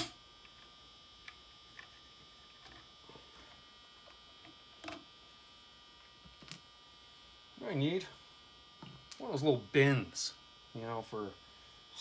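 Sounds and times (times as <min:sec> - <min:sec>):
fluorescent lights buzzing: 0:00.0 - 0:12.0.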